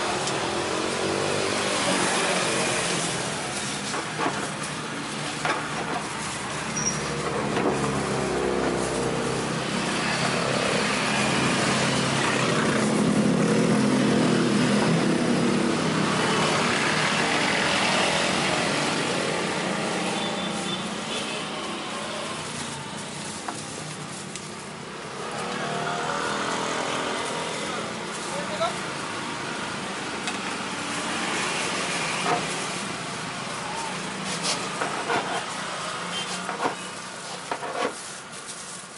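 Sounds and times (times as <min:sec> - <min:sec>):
traffic engine hum: 0:00.0 - 0:38.9.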